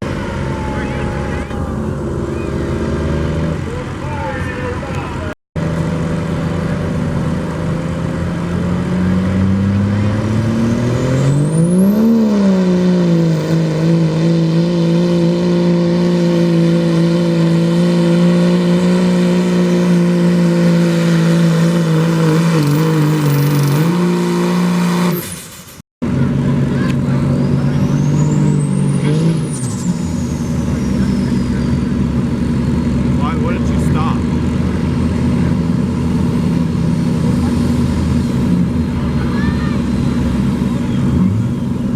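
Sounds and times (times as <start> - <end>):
diesel truck engine under load: 0.0 - 41.9.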